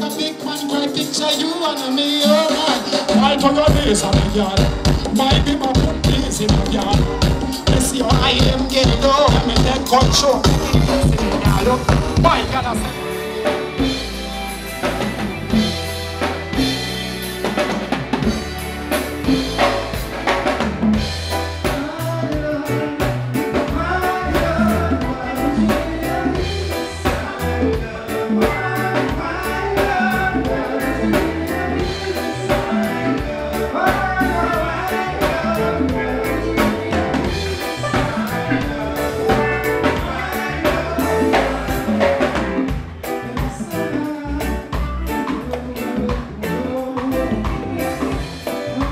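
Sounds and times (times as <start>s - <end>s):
person singing into microphone: 0.0s - 14.0s, 21.6s - 48.9s
drum kit beat: 0.0s - 48.9s
guitar: 0.0s - 48.9s.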